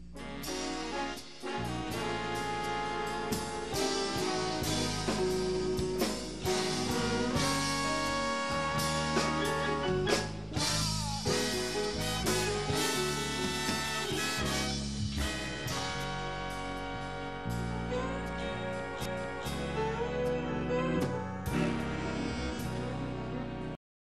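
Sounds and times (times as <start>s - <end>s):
drum kit and cymbal hits: 0.0s - 20.1s
brass section chords: 0.0s - 23.8s.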